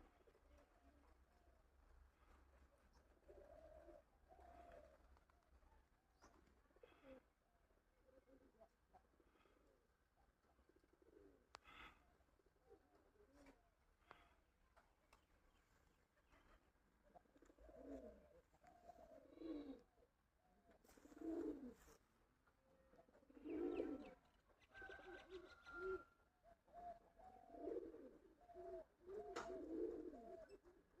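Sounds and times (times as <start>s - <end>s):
pigeons cooing: 0.0s - 5.6s, 6.2s - 14.4s, 16.2s - 22.0s, 22.8s - 31.0s.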